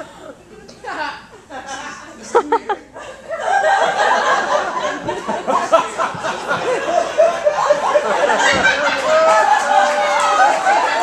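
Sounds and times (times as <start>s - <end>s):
audience laughing: 1.5s - 11.0s.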